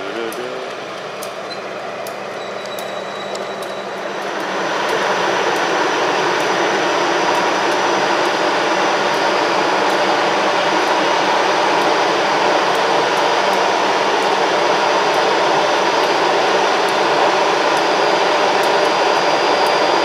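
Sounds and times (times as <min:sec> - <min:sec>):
locomotive engine roaring: 0:00.0 - 0:20.0.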